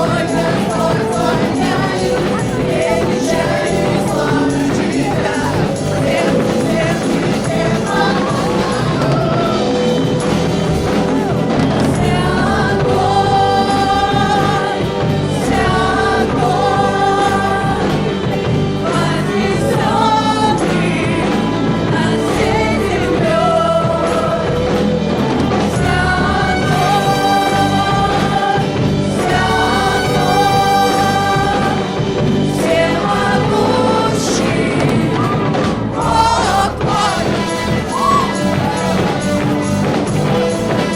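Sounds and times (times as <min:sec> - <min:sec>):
band with steady bass: 0:00.0 - 0:40.9
singers holding long lines: 0:00.0 - 0:40.9.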